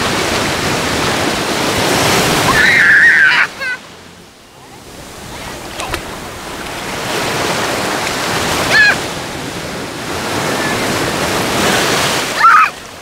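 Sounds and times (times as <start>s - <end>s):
surf breaking on shore: 0.0s - 13.0s.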